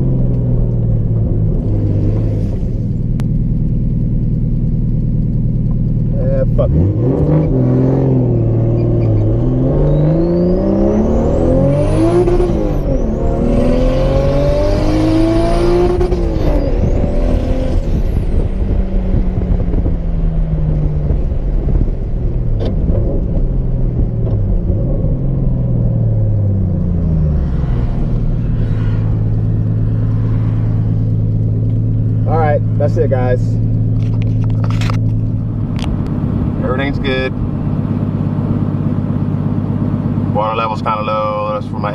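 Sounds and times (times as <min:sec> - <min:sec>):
car engine idling: 0:00.0 - 0:09.4, 0:16.7 - 0:41.9
car engine accelerating: 0:00.0 - 0:41.9.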